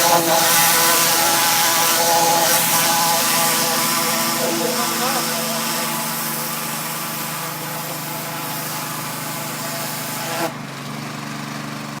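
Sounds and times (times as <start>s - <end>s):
water spray hissing: 0.0s - 10.5s
pressure washer engine humming: 0.0s - 12.0s.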